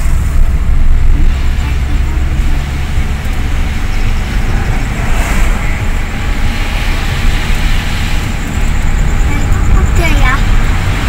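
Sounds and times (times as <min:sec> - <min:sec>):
car road and engine rumble: 0:00.0 - 0:11.0
passing vehicle whoosh: 0:00.0 - 0:11.0.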